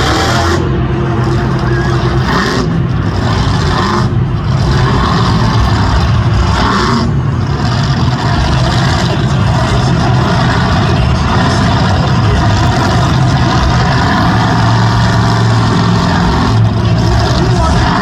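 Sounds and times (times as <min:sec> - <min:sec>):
truck engines roaring: 0:00.0 - 0:18.0.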